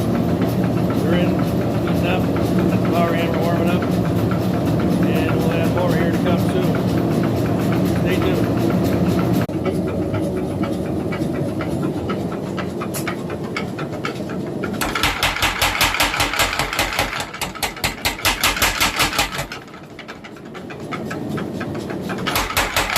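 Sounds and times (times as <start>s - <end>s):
power hammer pounding: 0.0s - 22.9s.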